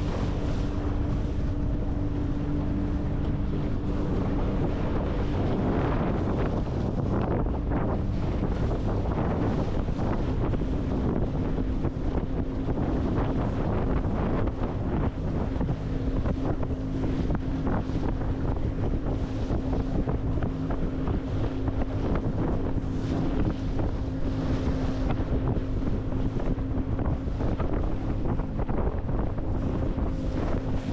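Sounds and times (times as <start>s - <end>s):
boat motor running: 0.0s - 30.9s
wind buffeting microphone: 0.0s - 30.9s.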